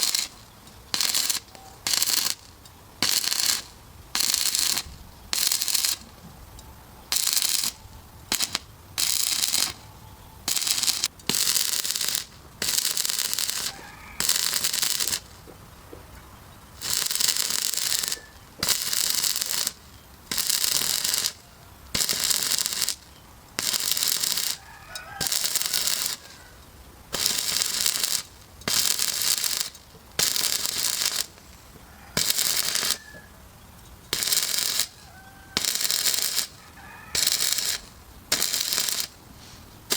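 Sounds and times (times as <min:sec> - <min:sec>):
welding arc crackling: 0:00.0 - 0:06.2, 0:07.0 - 0:15.8, 0:16.4 - 0:39.9.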